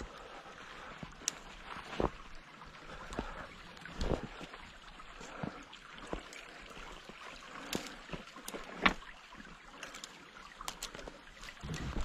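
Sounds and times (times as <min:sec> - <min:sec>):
light ticks and taps of snow: 0:00.0 - 0:04.6, 0:05.2 - 0:12.0.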